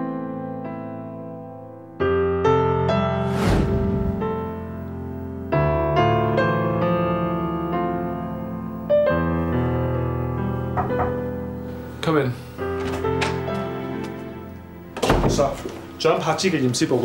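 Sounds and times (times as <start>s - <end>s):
piano playing slow chords: 0.0s - 16.2s.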